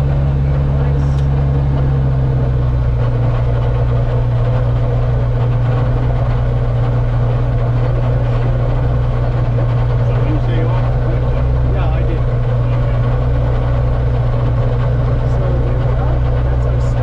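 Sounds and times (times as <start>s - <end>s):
aircraft engine running steadily: 0.0s - 17.0s.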